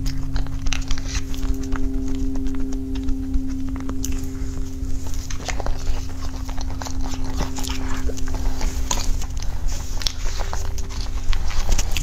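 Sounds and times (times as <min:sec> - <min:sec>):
chewing and mouth sounds: 0:00.0 - 0:12.0
low electrical hum: 0:00.0 - 0:12.0.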